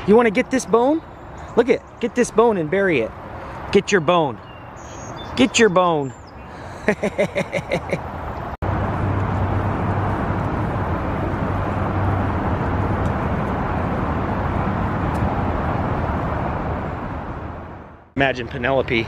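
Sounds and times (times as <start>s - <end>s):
road traffic with low hum: 0.0s - 19.0s.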